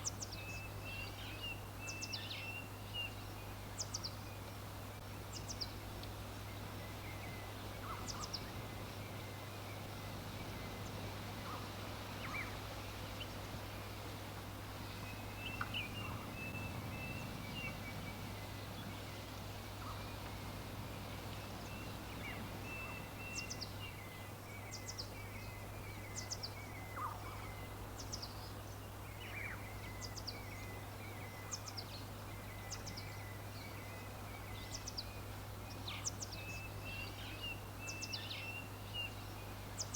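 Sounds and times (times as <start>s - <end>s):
background hiss and hum: 0.0s - 39.9s
songbirds chirping: 0.0s - 39.9s.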